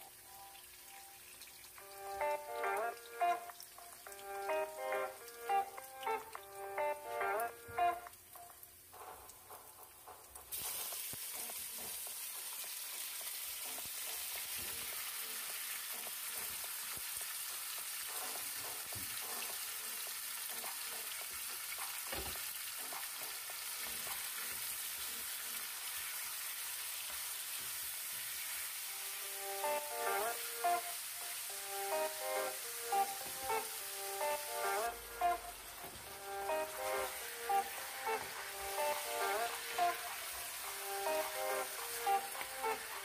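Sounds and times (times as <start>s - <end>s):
chicken sizzling in oil: 0.0s - 43.0s.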